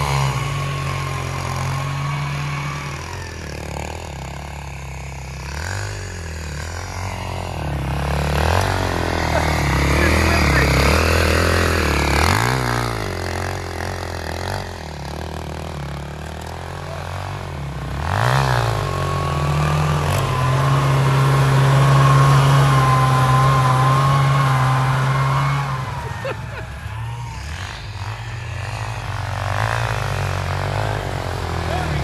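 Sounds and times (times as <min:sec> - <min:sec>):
quad engine revving: 0:00.0 - 0:32.0
snowmobile engine: 0:00.0 - 0:32.0.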